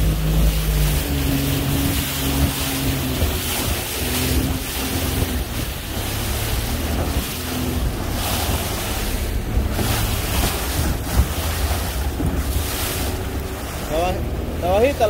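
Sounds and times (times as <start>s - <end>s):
boat motor running: 0.0s - 15.0s
waves rushing: 0.0s - 15.0s
wind buffeting microphone: 0.0s - 15.0s.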